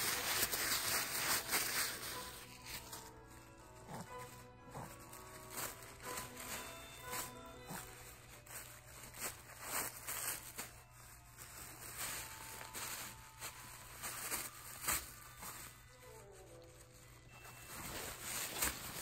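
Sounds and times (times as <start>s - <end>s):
tissue paper rustling: 0.0s - 19.0s.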